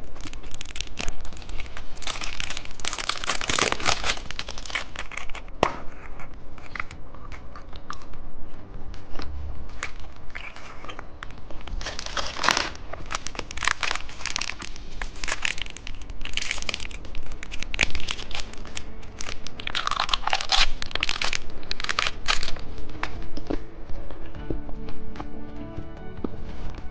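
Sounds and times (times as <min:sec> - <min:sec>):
plastic wrappers crinkling: 0:00.0 - 0:24.4.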